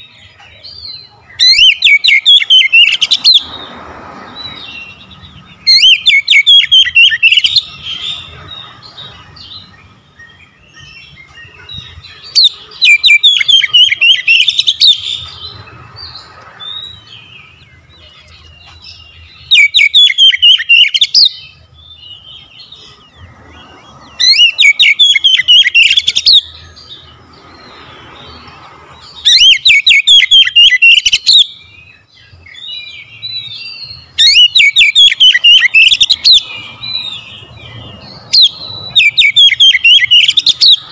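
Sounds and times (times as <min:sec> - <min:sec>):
songbird whistled chattering song: 0:00.0 - 0:03.7, 0:04.4 - 0:40.9.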